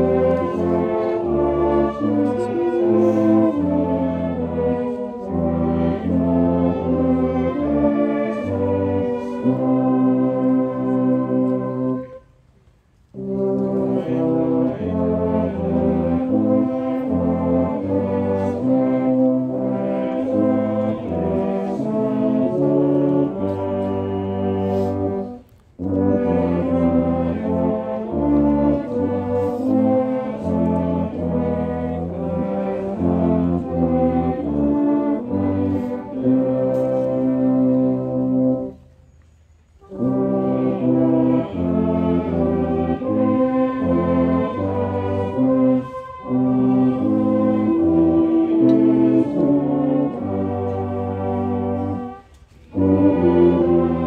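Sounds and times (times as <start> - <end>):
brass band playing slow piece: 0.0 - 54.0.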